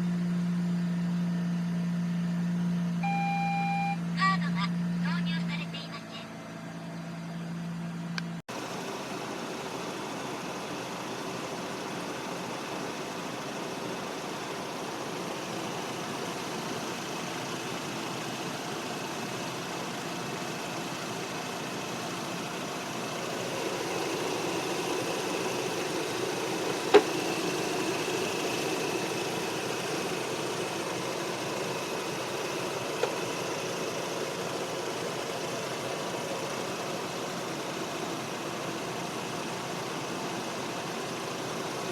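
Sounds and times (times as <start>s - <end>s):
rotary engine idling: 6.3s - 41.9s.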